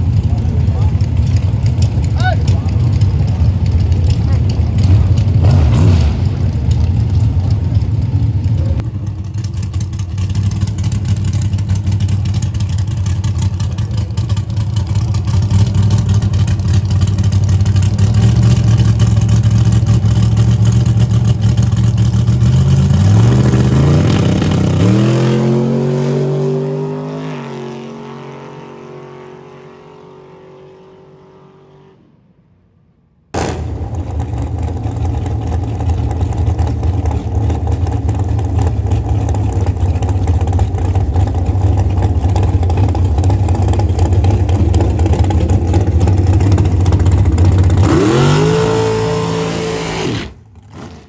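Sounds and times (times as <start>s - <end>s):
drag racing car engine: 0.0s - 32.4s, 33.4s - 51.0s.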